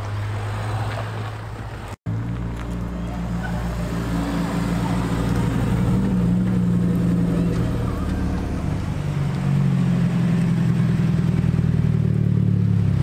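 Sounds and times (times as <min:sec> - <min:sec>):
car engines driving slowly past: 0:00.0 - 0:13.0.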